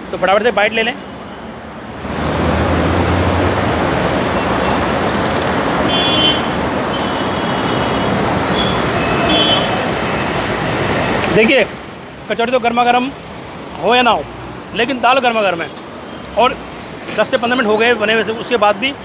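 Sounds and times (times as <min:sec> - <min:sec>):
heavy road traffic: 0:00.0 - 0:19.0.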